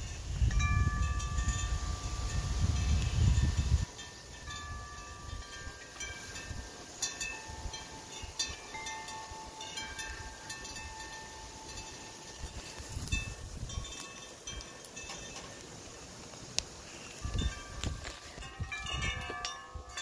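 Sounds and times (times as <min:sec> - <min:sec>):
chimes ringing: 0:00.5 - 0:15.6, 0:17.1 - 0:20.0.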